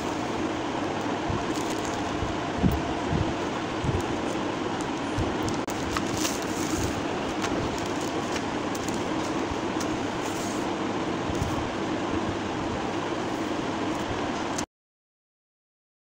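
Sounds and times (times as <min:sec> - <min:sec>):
steady hum and hiss: 0:00.0 - 0:14.7.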